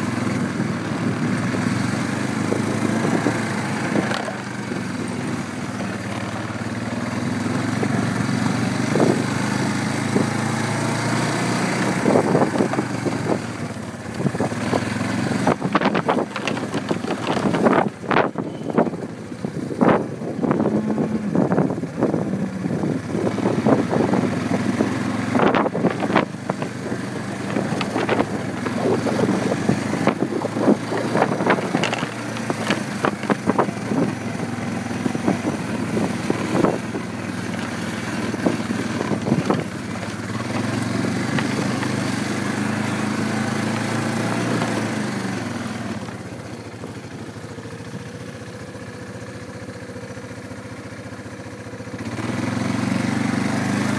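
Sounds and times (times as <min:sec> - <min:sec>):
small engine running: 0:00.0 - 0:53.9.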